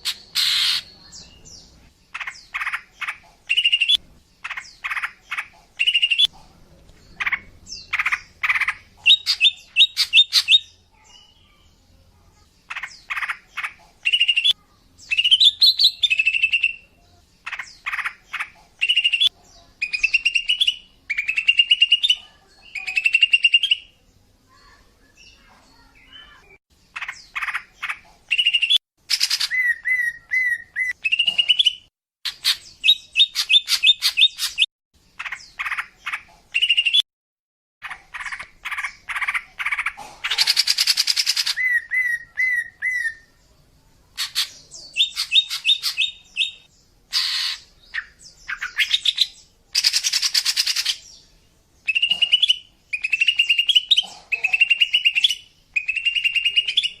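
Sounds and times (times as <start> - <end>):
bird chirping: 0.0 - 37.0, 37.8 - 57.0.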